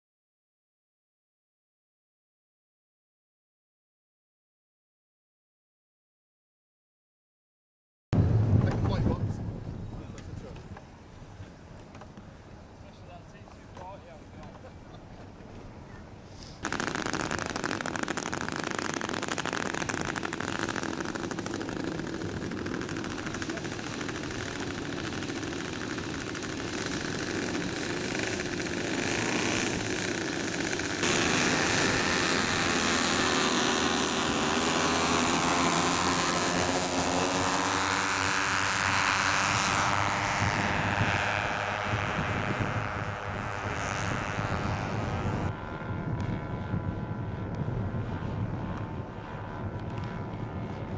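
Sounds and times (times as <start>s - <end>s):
model aircraft engines: 8.2s - 50.9s.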